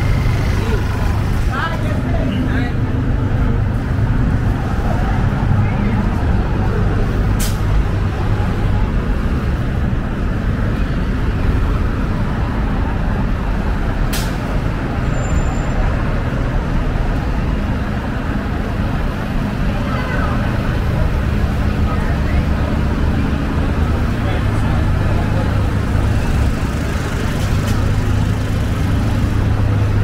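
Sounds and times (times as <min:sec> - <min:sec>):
rumble of engines and tyres: 0:00.0 - 0:30.0.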